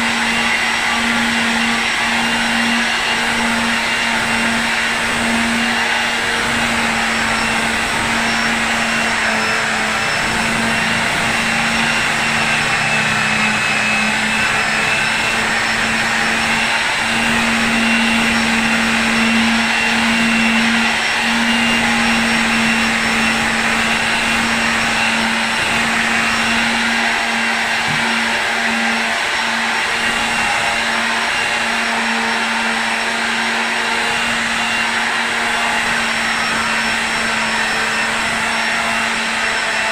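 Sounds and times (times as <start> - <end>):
small electric motor humming: 0.0 - 39.9.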